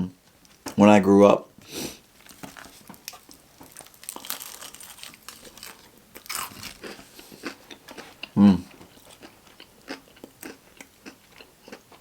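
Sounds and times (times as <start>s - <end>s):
crunchy food chewing: 2.2s - 12.0s.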